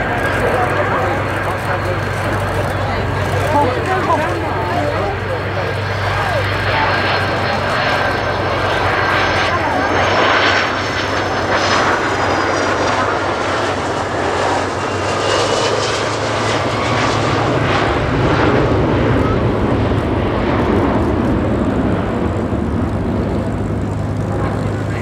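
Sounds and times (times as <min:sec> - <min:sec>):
jet engines roaring with whine: 0:00.0 - 0:25.0.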